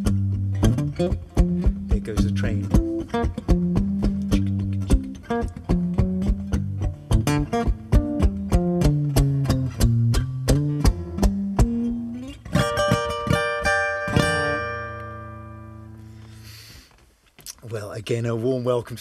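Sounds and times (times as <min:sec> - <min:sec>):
acoustic guitar strumming: 0:00.0 - 0:16.5.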